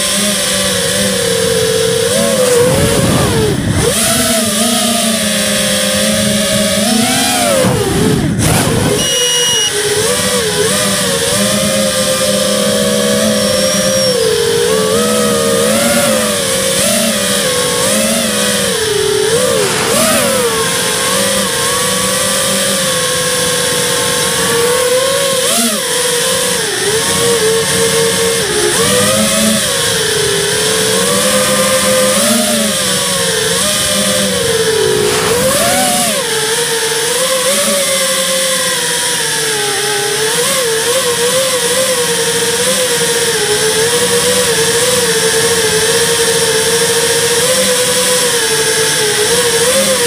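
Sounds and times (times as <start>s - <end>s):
rc car motor running: 0.0s - 50.0s.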